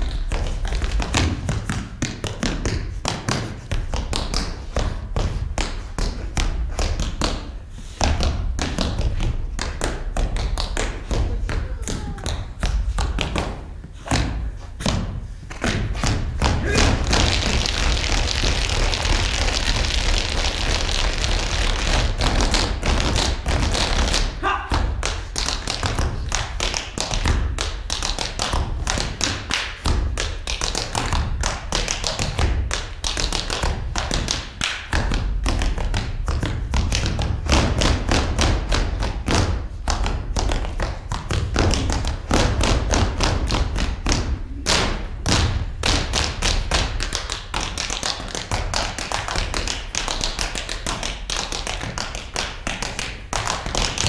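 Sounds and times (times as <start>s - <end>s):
feet stamping on stage floor: 0.0s - 54.0s.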